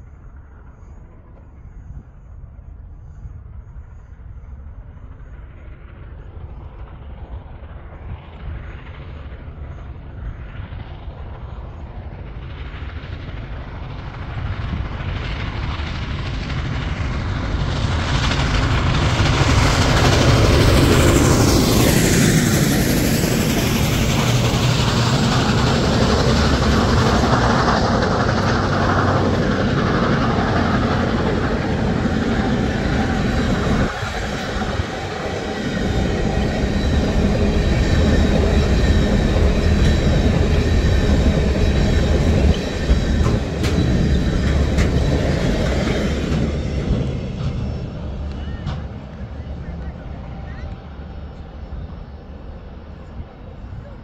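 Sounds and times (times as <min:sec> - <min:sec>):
steam locomotive passing: 0:00.0 - 0:54.0
train cars rumbling past: 0:00.0 - 0:54.0.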